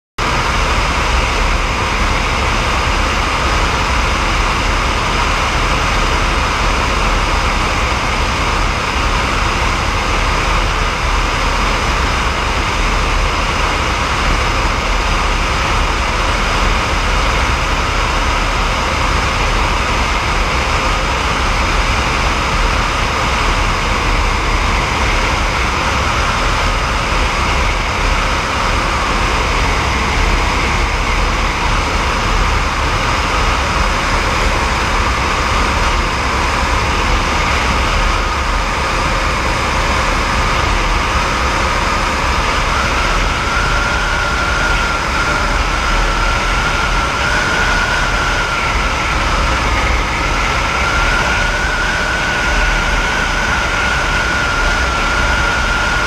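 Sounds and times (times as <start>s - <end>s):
helicopter rotor rushing: 0.2s - 56.0s
helicopter turbine whine: 0.2s - 56.0s.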